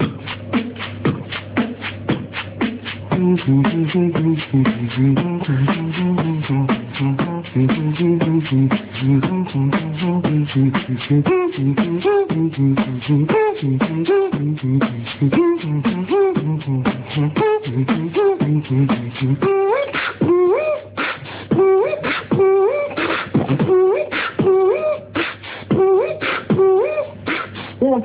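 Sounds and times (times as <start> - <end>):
beatboxing: 0.0 - 28.0
hummed low notes: 0.0 - 28.0.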